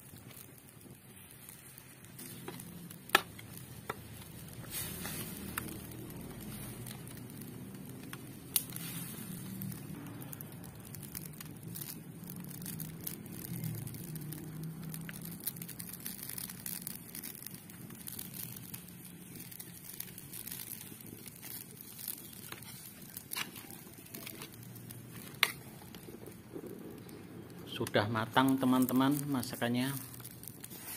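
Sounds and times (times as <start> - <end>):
curry simmering in a wok: 0.0 - 30.9
wood fire crackling: 0.0 - 30.9.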